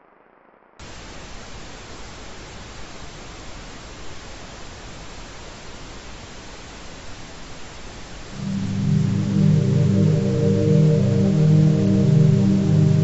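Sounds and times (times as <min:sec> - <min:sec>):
broadcast static hiss: 0:00.6 - 0:13.0.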